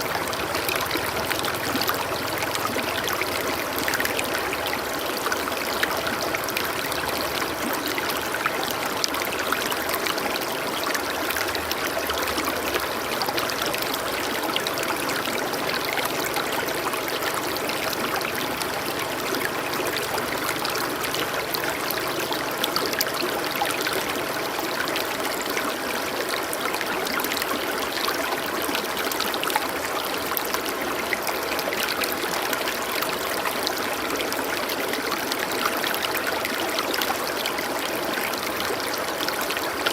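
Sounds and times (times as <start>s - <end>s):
stream water flowing over rocks: 0.0s - 39.9s.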